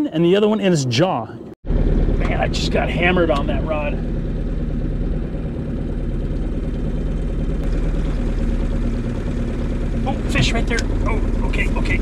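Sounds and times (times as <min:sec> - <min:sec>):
outboard motor running: 0:01.6 - 0:12.0.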